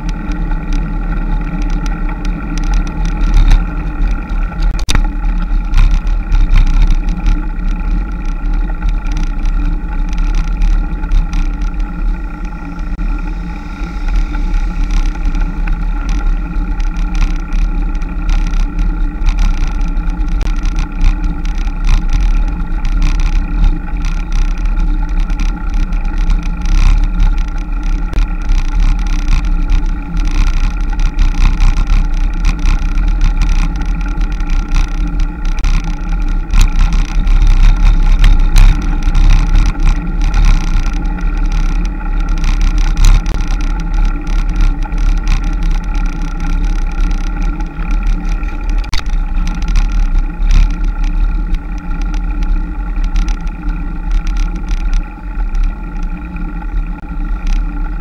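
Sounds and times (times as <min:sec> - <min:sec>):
constant tones: 0:00.0 - 0:58.0
vehicle running drone: 0:00.0 - 0:58.0
wind buffeting microphone: 0:00.0 - 0:58.0.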